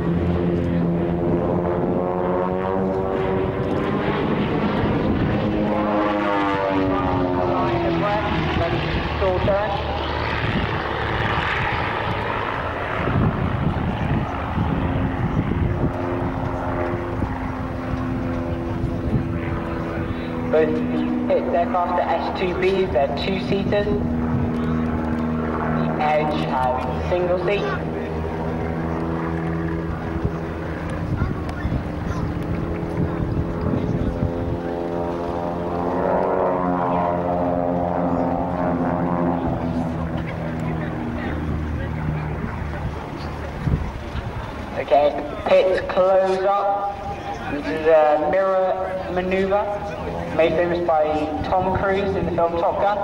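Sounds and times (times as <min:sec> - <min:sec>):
propeller aircraft engine drone: 0:00.0 - 0:53.0.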